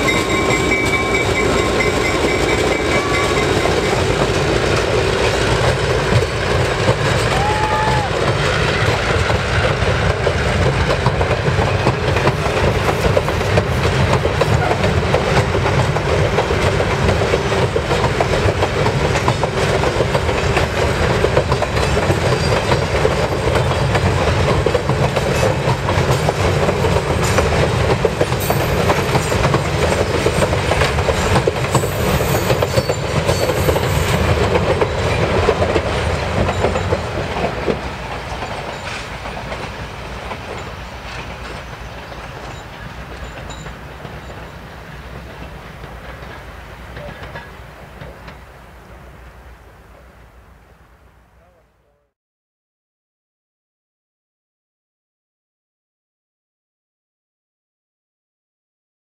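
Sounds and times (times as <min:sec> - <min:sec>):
train rolling over trestle: 0:00.0 - 0:48.6
wheels clacking over rail joints: 0:00.0 - 0:49.4.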